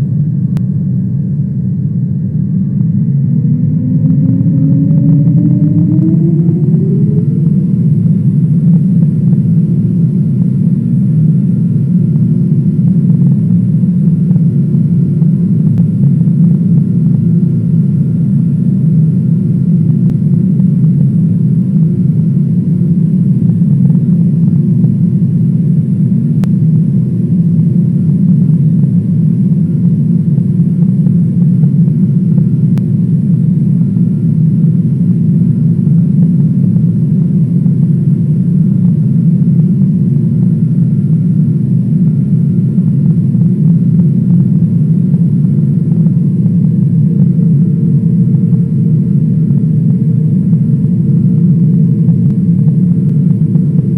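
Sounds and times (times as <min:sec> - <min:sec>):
airliner cabin engine rumble: 0:00.0 - 0:53.9
thin steady whine: 0:00.0 - 0:53.9.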